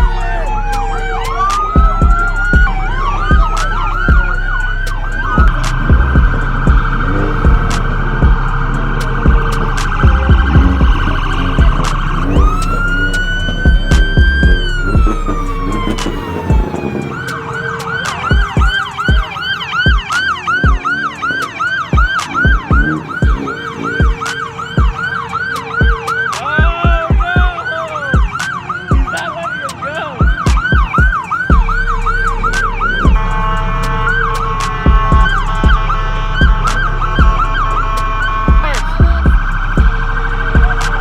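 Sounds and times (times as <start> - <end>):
deep bass thumps: 0.0 - 20.8, 21.9 - 25.1, 25.8 - 27.6, 28.2 - 29.1, 30.2 - 41.0
police siren wailing and yelping: 0.0 - 41.0
second siren: 0.0 - 41.0.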